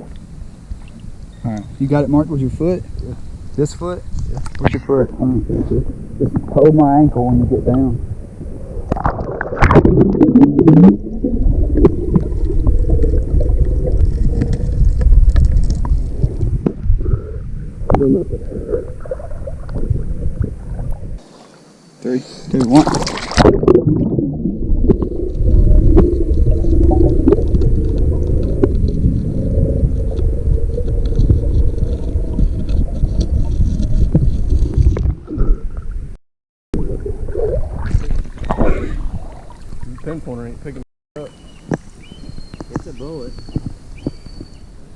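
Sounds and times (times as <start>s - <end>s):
muffled underwater river rumbling: 0.0s - 21.5s, 22.6s - 36.2s, 36.8s - 40.8s.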